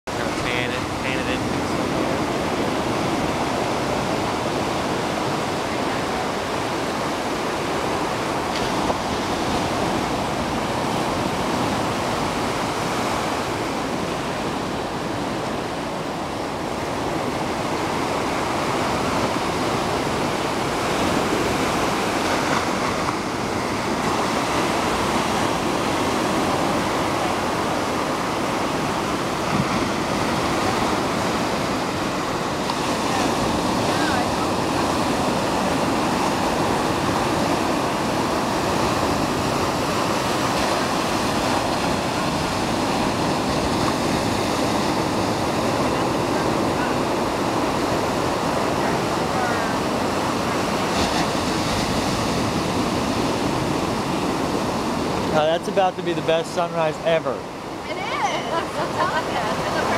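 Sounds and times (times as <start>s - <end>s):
ocean surf breaking: 0.1s - 59.9s.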